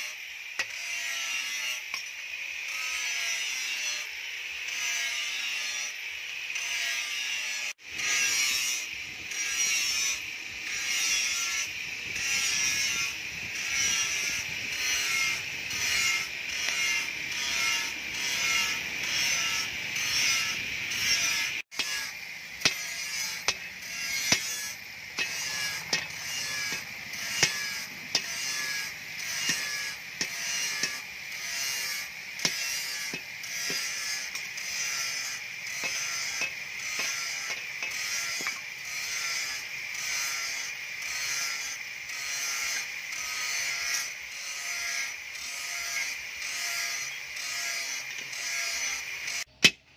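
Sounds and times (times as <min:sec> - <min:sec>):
hand-cranked blower whirring: 0:05.5 - 0:49.8.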